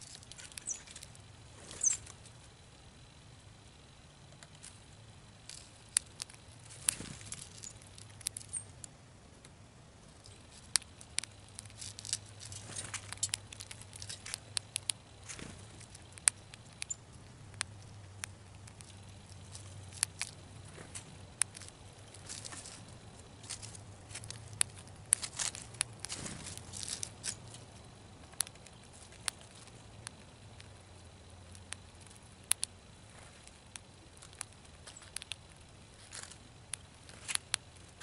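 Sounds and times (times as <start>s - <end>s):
faint low hum: 0.0s - 38.0s
squirrel cracking seeds: 0.0s - 38.0s.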